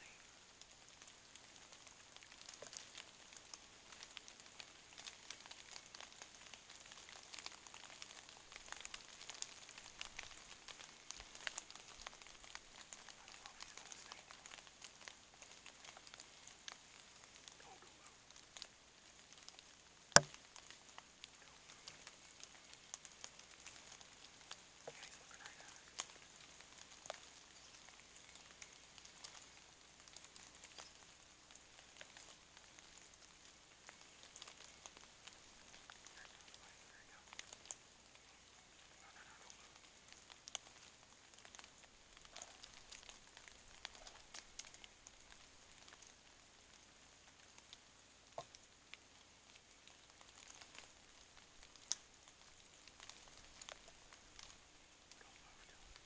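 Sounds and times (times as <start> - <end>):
light rain hiss: 0.0 - 56.0
raindrop ticks: 0.0 - 56.0.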